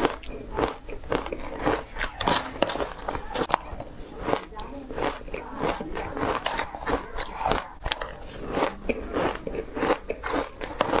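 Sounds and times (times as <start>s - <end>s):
person crunching ice: 0.0s - 11.0s.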